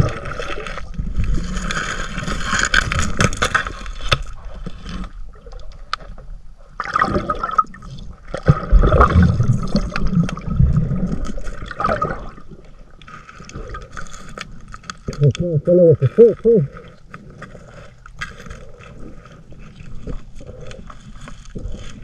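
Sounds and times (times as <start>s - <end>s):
underwater bubbling and gurgling: 0.0s - 22.0s.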